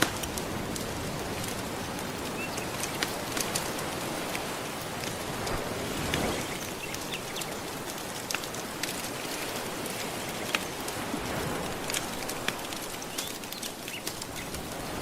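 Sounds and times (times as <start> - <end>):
ocean waves washing: 0.0 - 15.0
wood fire crackling: 0.0 - 15.0.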